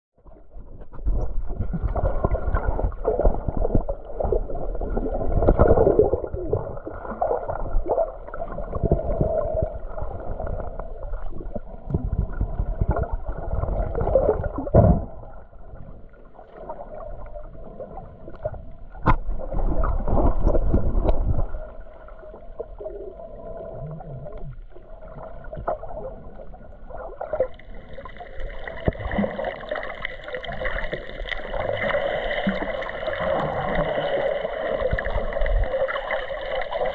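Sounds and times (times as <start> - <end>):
underwater water gurgling: 0.2 - 36.9.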